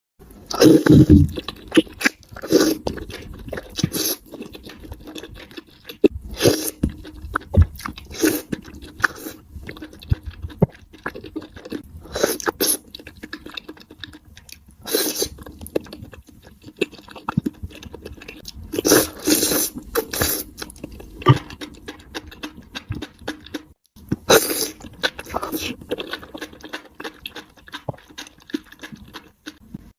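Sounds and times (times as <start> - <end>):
person chewing crunchy food: 0.5 - 29.9.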